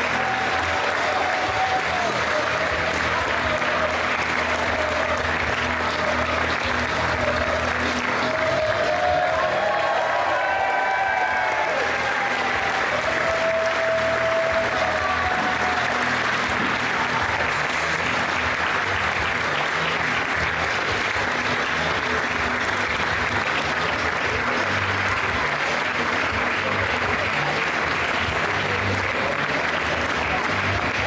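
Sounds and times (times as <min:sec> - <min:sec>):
crowd applauding and cheering: 0:00.0 - 0:31.0.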